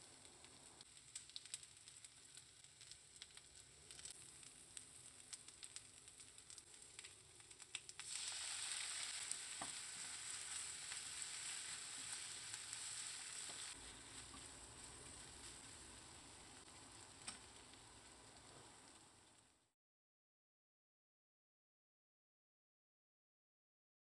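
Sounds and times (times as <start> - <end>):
food sizzling in a pan: 0.0 - 19.7
light crackles: 0.0 - 19.7.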